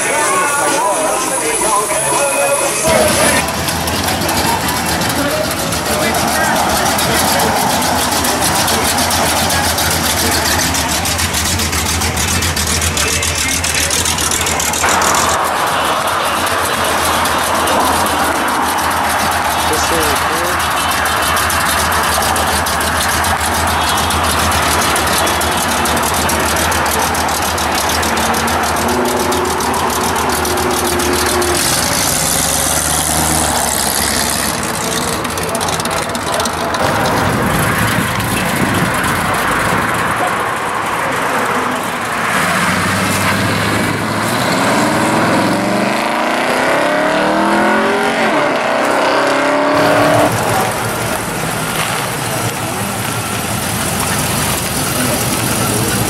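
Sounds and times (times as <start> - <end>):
car engine revving: 0.0 - 56.0
car engines rumbling: 0.0 - 56.0.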